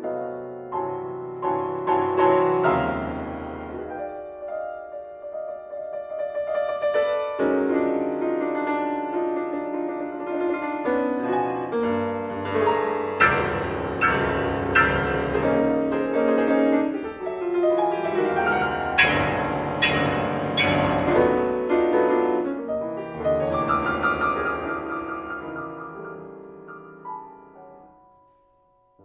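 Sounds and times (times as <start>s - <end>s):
solo piano piece: 0.0s - 29.0s.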